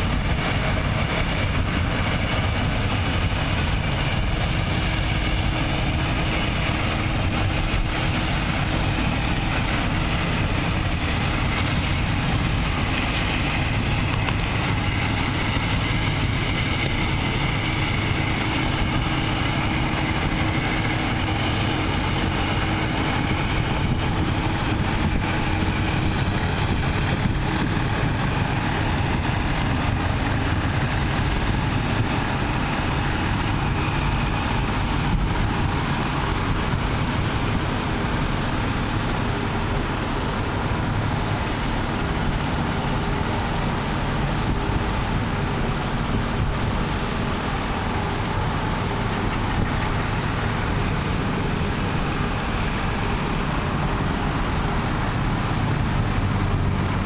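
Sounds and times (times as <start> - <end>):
boat engine droning: 0.0 - 57.0
water noise: 0.0 - 57.0
wind: 0.0 - 57.0.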